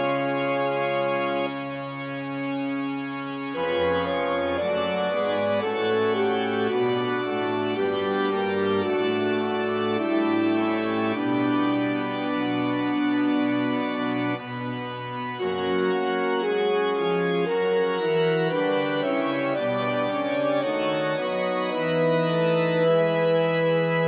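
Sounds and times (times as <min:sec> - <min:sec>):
organ music: 0:00.0 - 0:24.0.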